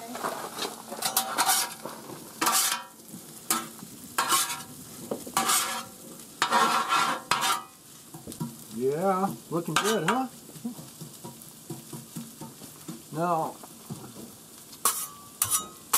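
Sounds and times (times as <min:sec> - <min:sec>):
spatula scraping griddle: 0:00.0 - 0:08.6, 0:09.6 - 0:13.1, 0:14.6 - 0:15.9
food sizzling: 0:00.0 - 0:15.9.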